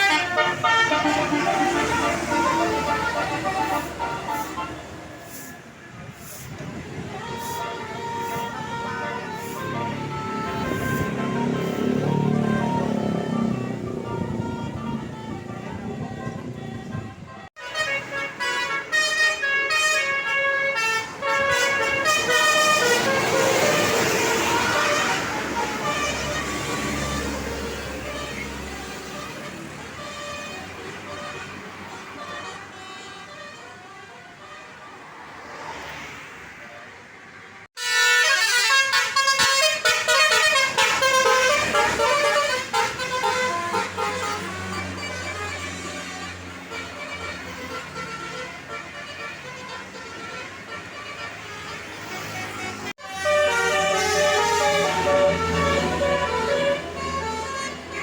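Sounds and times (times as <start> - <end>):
multi-tone bus horn melody: 0.0 - 58.0.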